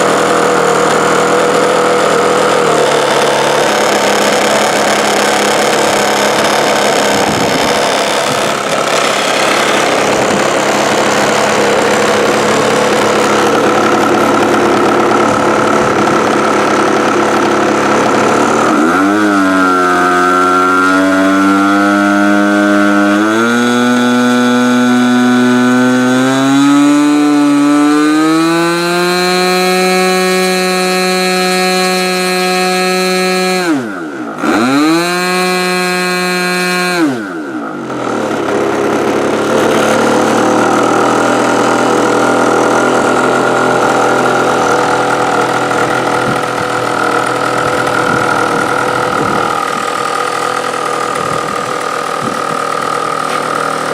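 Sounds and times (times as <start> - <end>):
model airplane engine buzzing: 0.0 - 53.9.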